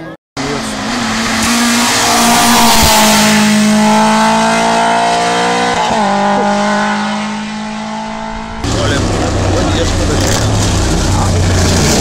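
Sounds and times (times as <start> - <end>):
rally car engine at high revs: 0.4 - 12.0.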